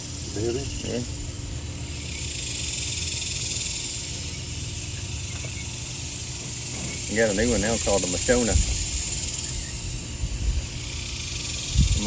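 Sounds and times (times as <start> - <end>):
high insect buzz: 0.0 - 12.0
low steady rumble: 0.0 - 12.0.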